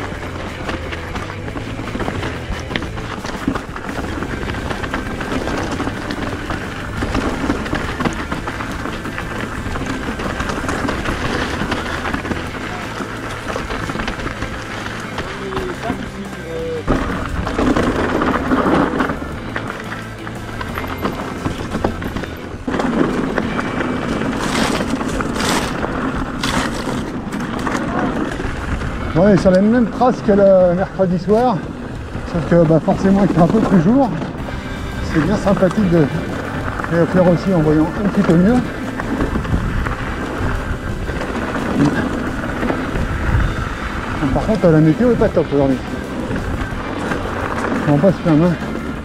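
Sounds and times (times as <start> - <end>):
bike rattling: 0.0 - 49.0
bike tyres rolling over rocks: 0.0 - 49.0.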